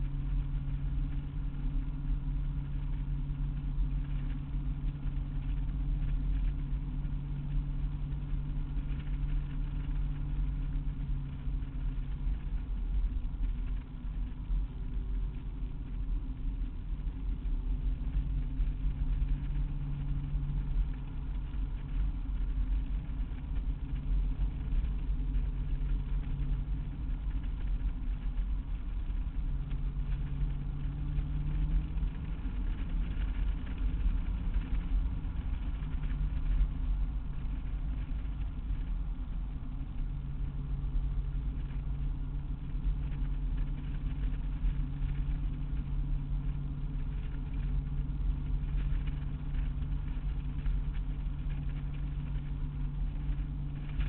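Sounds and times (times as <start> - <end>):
car engine running: 0.0 - 54.0
road and tyre rumble: 0.0 - 54.0.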